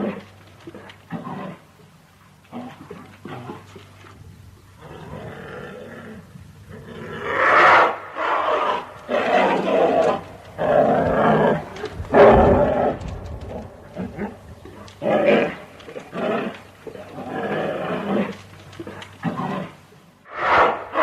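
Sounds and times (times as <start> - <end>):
bear growling and roaring: 0.0 - 21.0.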